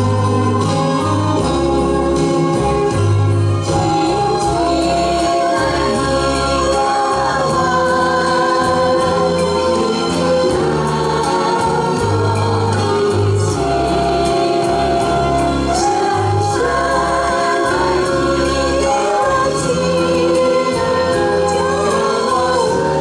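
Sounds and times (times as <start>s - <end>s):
bass line: 0.0s - 23.0s
group singing in chorus: 0.0s - 23.0s
instrumental accompaniment: 0.0s - 23.0s.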